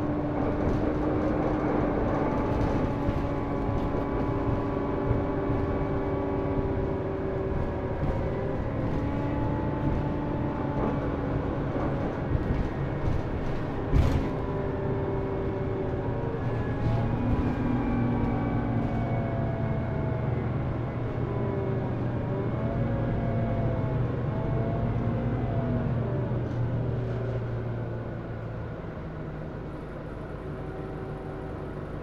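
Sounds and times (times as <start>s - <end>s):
bus engine droning and whining: 0.0s - 32.0s.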